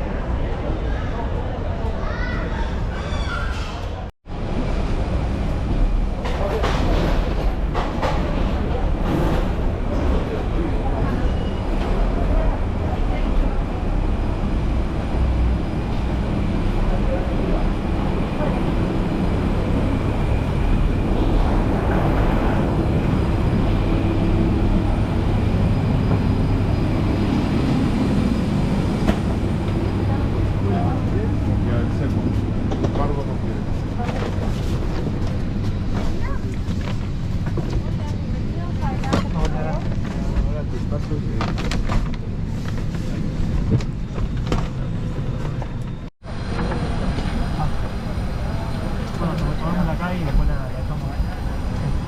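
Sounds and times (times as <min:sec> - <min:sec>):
airplane cabin rumble and hum: 0:04.3 - 0:52.0.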